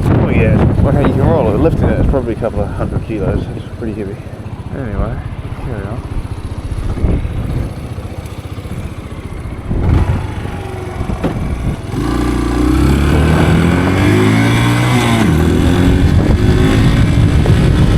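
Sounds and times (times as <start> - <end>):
dirt bike engine revving: 0.9 - 17.9.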